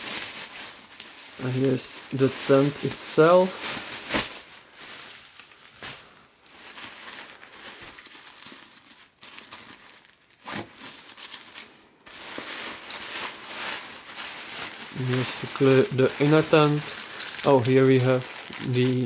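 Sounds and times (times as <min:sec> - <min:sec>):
tent fabric crinkling: 0:00.0 - 0:19.0.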